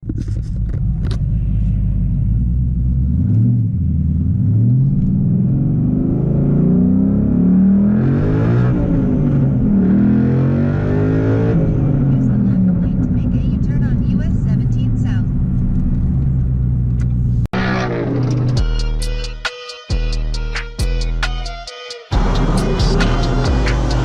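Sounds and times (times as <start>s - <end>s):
car engine revving: 0.4s - 19.0s, 22.1s - 24.0s.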